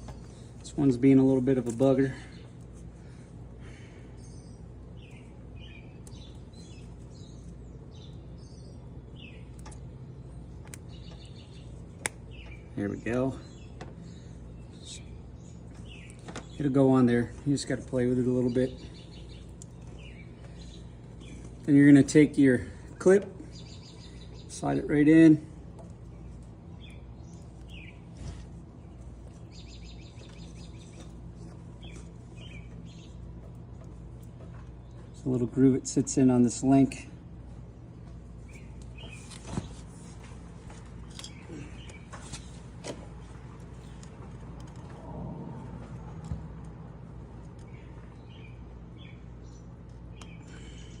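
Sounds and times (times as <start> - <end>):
small birds chirping: 0.0 - 51.0
steady low hum: 0.0 - 51.0.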